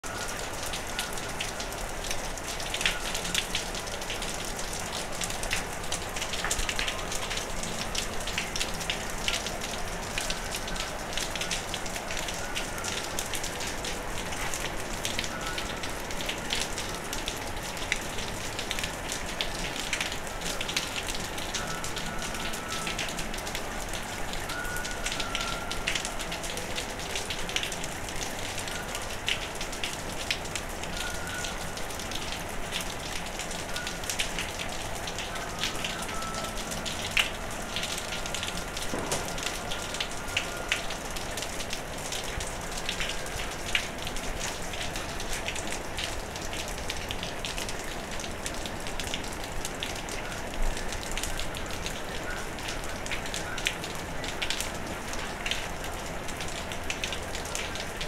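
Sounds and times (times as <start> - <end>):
raindrops ticking on surfaces: 0.0 - 58.0
steady rain falling: 0.0 - 58.0.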